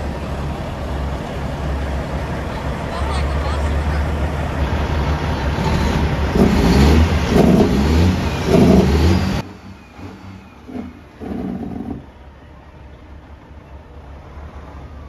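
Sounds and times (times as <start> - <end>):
diesel truck engine running: 0.0 - 15.0
truck engine idling: 0.0 - 15.0.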